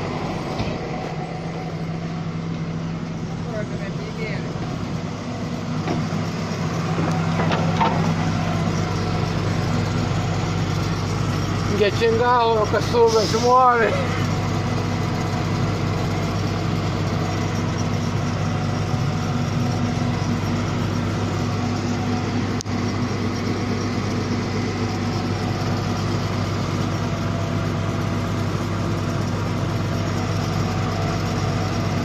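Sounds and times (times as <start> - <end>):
machine engine droning: 0.0 - 32.0.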